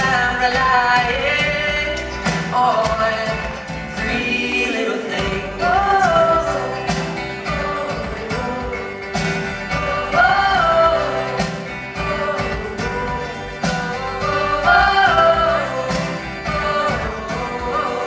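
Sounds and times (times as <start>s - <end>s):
live band playing acoustic pop: 0.0s - 18.0s.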